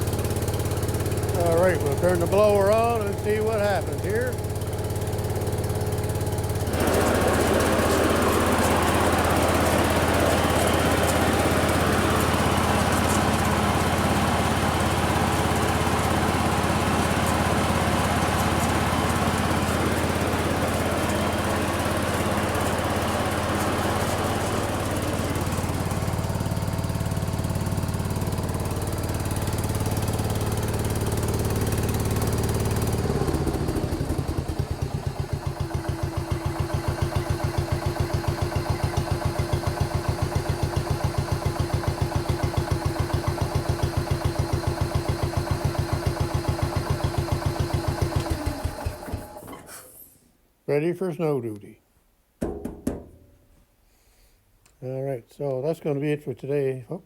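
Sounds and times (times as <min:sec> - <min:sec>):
snowthrower blower whirring: 0:00.0 - 0:49.8
garden tractor engine running: 0:00.0 - 0:50.0.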